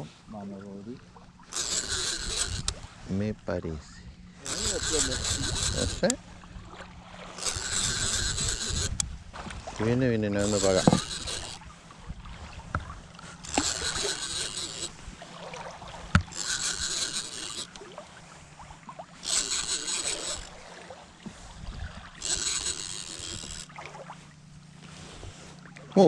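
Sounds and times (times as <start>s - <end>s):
fishing reel whirring: 1.3s - 3.4s, 4.3s - 26.0s.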